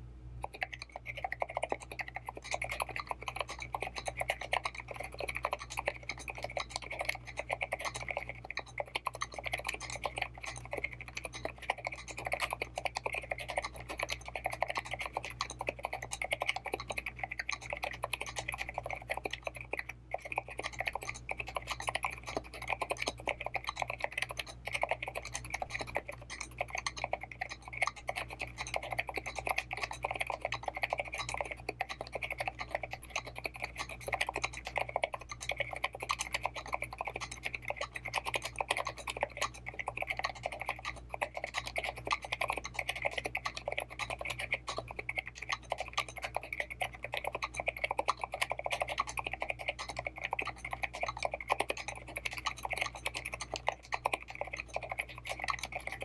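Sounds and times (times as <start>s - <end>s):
low steady hum: 0.0s - 56.0s
fast typing on keyboard: 0.4s - 56.0s.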